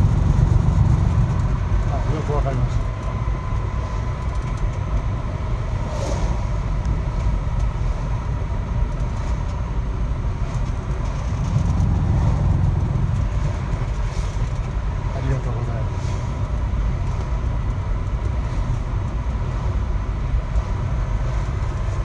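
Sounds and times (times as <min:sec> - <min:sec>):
road and drivetrain rumble: 0:00.0 - 0:22.0.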